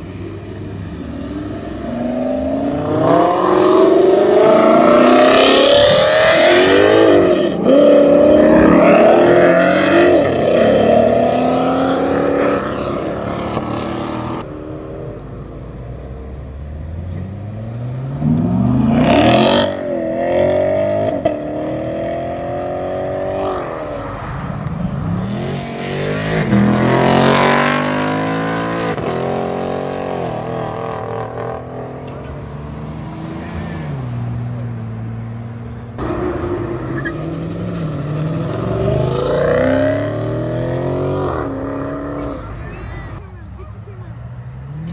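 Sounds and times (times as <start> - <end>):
cars accelerating hard: 0.0 - 15.2, 16.6 - 43.1.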